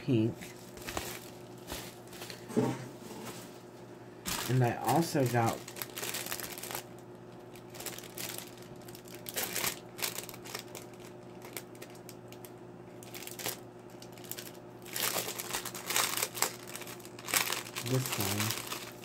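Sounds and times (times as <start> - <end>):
faint steady hum: 0.0 - 19.0
plastic packaging crinkling: 0.4 - 2.5, 4.3 - 19.0.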